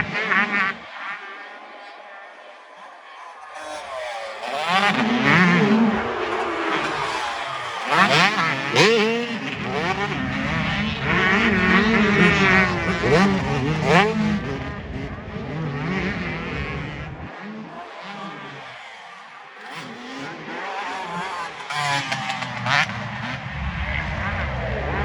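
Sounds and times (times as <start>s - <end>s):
motocross engines revving: 0.0s - 25.0s.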